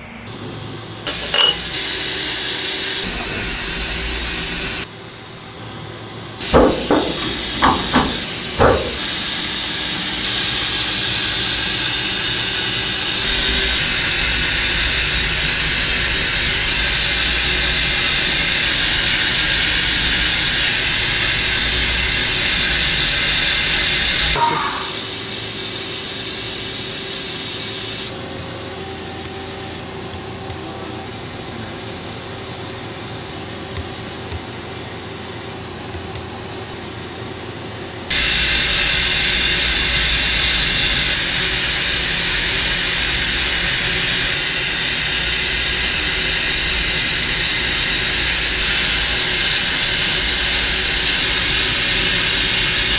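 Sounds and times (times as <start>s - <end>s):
milling machine running: 0.0s - 52.9s.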